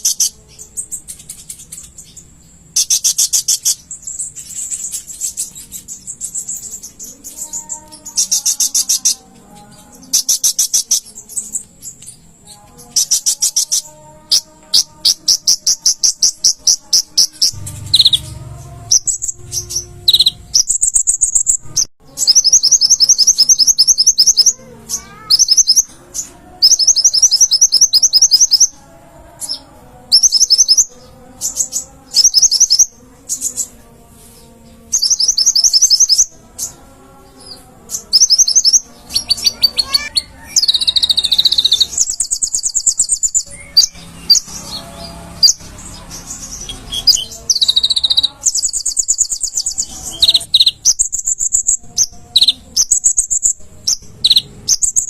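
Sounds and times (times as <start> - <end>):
bird trilling song: 0.0 - 55.0.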